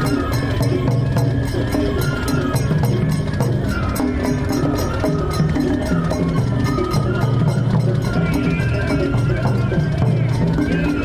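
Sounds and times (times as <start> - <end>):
festival music with high melody: 0.0 - 11.0
quick ticking beat: 0.0 - 11.0.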